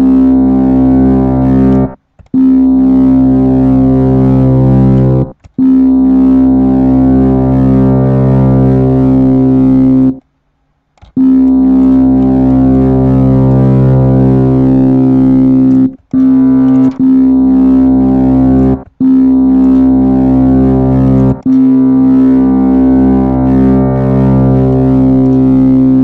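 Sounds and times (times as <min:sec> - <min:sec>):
low wobbling synthesizer note: 0:00.0 - 0:10.2, 0:11.2 - 0:26.0.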